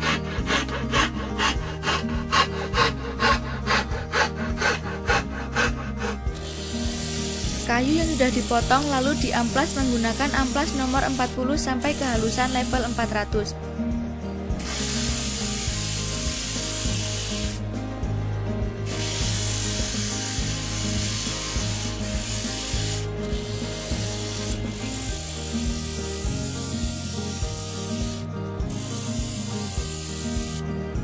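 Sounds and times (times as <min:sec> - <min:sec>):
sandpaper rasping on wood: 0:00.0 - 0:13.1, 0:14.6 - 0:17.6, 0:18.9 - 0:30.6.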